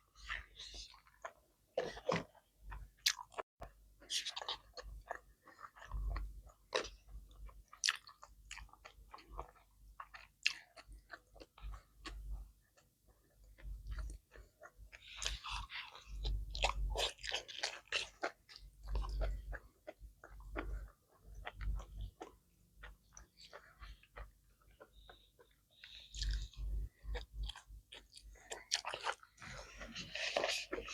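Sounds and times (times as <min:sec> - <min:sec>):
person chewing crunchy food: 0:00.0 - 0:30.9.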